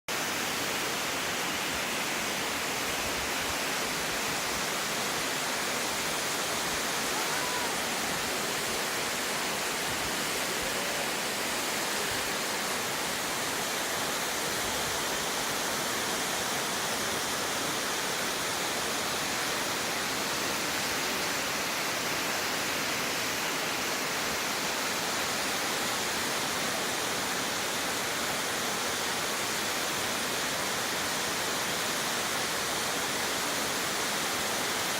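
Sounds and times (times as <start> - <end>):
waterfall splashing: 0.1 - 34.9.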